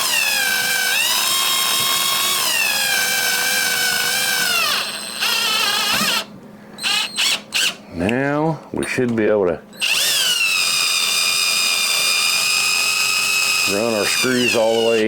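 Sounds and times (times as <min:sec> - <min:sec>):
power drill motor whine: 0:00.0 - 0:07.8, 0:09.8 - 0:15.0.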